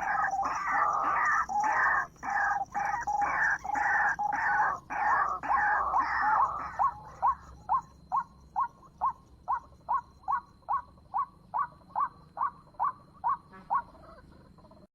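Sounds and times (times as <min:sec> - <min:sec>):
waterhen calling: 0:00.0 - 0:14.8.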